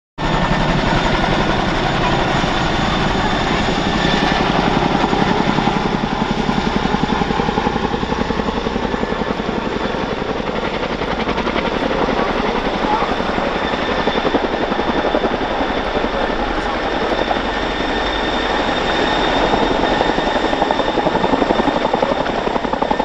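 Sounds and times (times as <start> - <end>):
helicopter rotor thumps: 0.2 - 23.0.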